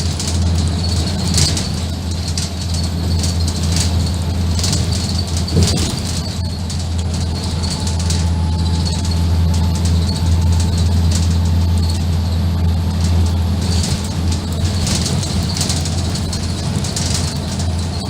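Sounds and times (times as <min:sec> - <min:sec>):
bus diesel engine droning: 0:00.0 - 0:18.0
interior panels rattling: 0:00.0 - 0:18.0.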